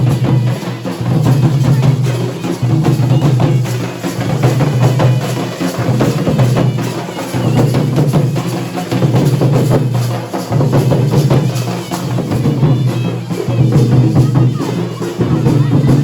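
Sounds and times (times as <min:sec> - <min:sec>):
fast dense drumming: 0:00.0 - 0:16.0.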